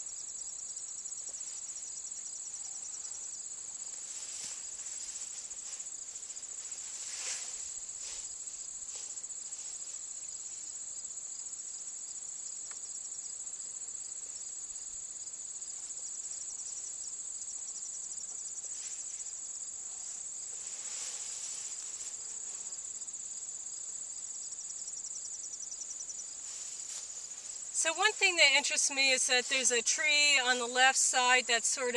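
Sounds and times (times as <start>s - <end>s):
high-pitched insect chorus: 0.0s - 31.9s
pulsing insect trill: 0.0s - 31.9s.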